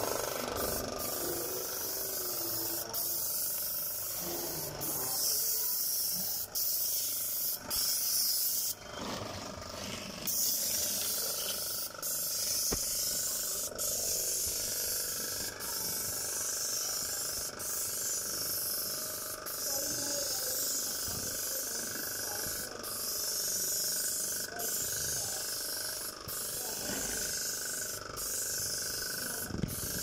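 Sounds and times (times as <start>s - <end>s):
paint spray gun hissing: 0.0s - 30.0s.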